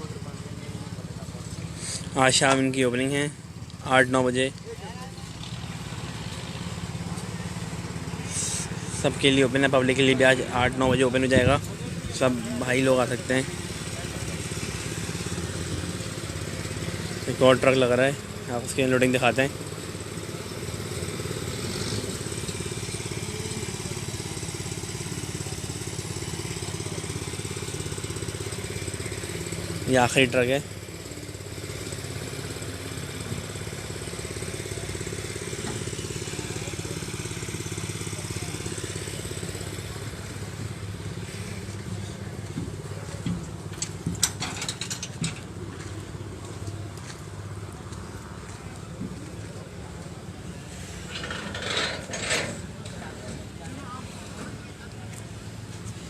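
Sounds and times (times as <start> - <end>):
truck diesel engine idling: 0.0 - 56.0.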